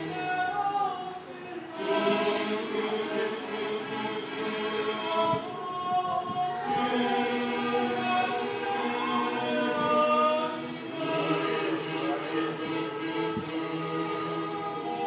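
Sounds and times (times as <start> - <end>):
church choir singing: 0.0 - 15.0.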